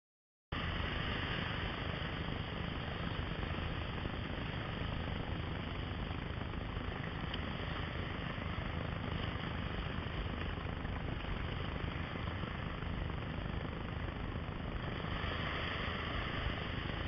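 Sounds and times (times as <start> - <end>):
heavy low rumble: 0.6 - 17.0
sea surge washing over rocks: 0.6 - 17.0.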